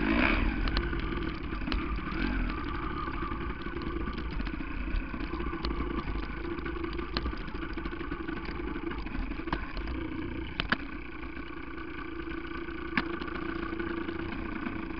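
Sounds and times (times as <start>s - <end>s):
two-stroke engine running: 0.0s - 14.9s
sharp clicks: 0.4s - 11.1s, 12.8s - 14.5s.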